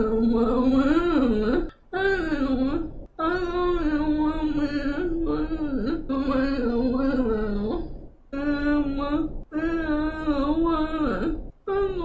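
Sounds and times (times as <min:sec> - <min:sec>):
woman speaking slowly: 0:00.0 - 0:12.0.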